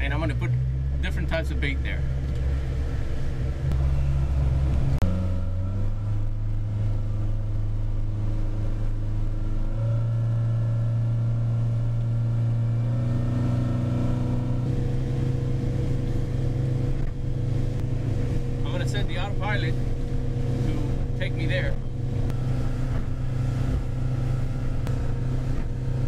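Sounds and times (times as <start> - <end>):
boat engine drone: 0.0 - 26.0.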